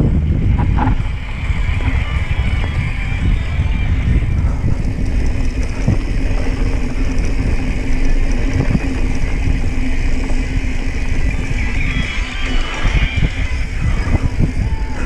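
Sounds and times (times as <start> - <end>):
tyres on dirt trail: 0.0 - 15.0
wind rumble on camera: 0.0 - 15.0.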